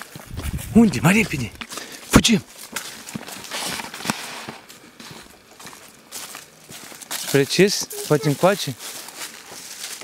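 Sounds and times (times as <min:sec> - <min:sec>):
footsteps on dry leaves: 0:00.0 - 0:10.0.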